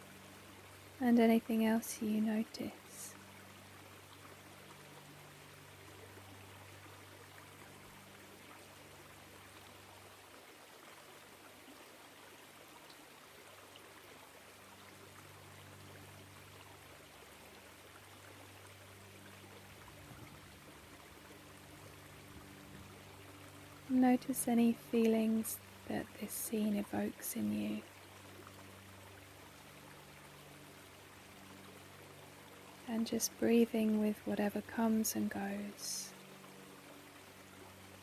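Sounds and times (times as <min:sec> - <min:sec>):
stream flowing: 0:00.0 - 0:38.0.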